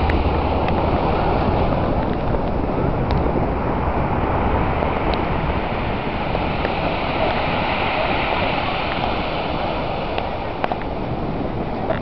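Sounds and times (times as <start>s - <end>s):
surf washing on pebble beach: 0.0s - 12.0s.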